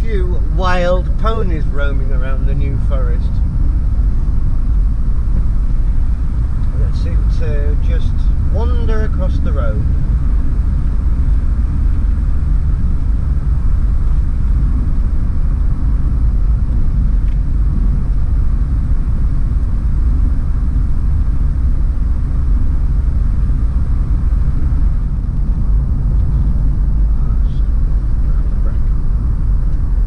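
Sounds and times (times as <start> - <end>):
engine and road noise rumble: 0.0 - 30.0.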